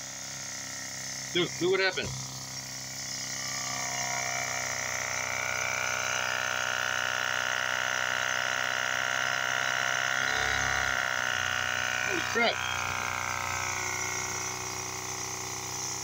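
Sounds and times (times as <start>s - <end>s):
air-driven oscillator buzzing: 0.0s - 16.0s.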